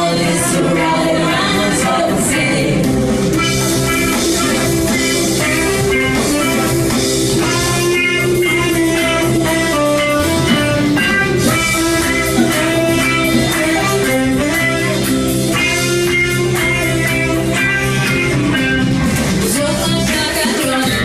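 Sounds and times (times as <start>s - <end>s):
bass: 0.0s - 21.0s
drum kit: 0.0s - 21.0s
electric guitar: 0.0s - 21.0s.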